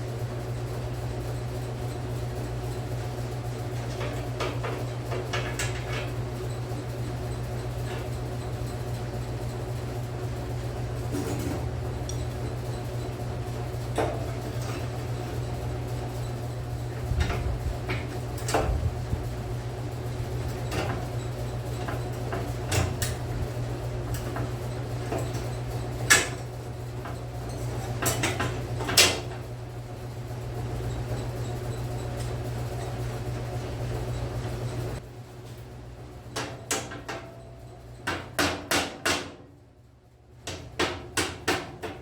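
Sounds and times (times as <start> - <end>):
steady low hum: 0.0 - 36.6.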